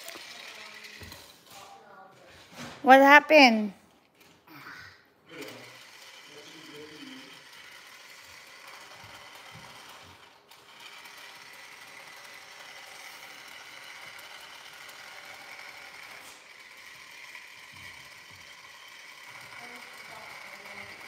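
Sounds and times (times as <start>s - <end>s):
toy drill whirring: 0.0s - 1.6s, 4.2s - 21.0s.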